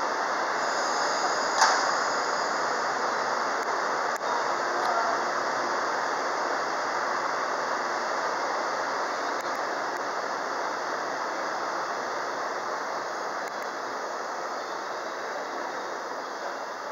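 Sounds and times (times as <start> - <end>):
electric train rumbling: 0.0 - 16.9.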